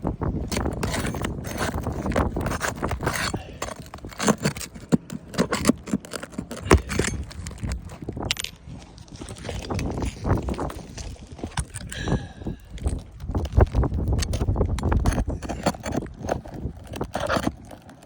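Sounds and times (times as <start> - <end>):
scraping and knocking on roof shingle: 0.0 - 18.0.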